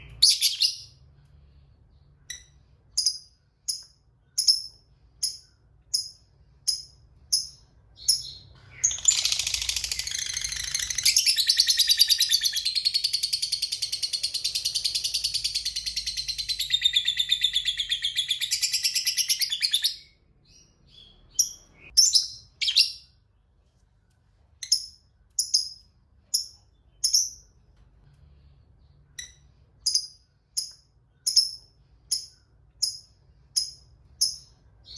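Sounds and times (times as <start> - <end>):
lovebird chirping: 0.0 - 1.1, 1.9 - 23.2, 24.6 - 27.6, 28.8 - 34.9.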